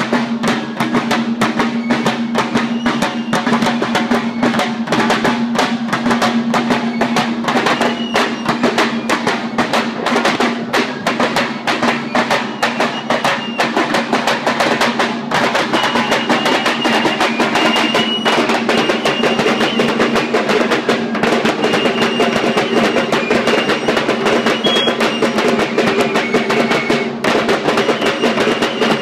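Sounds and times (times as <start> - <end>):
drums beaten in fast rolls: 0.0 - 29.0.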